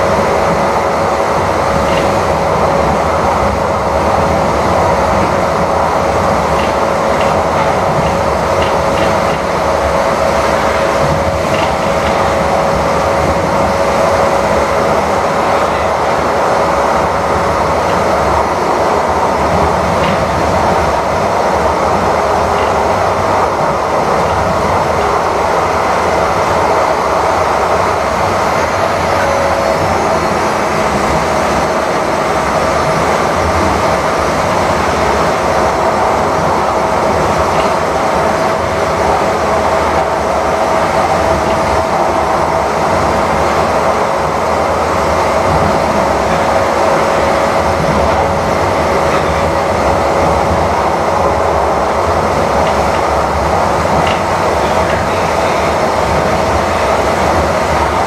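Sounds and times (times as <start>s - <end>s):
rumble of wheels on rail: 0.0s - 58.0s
train motor whine: 0.0s - 58.0s.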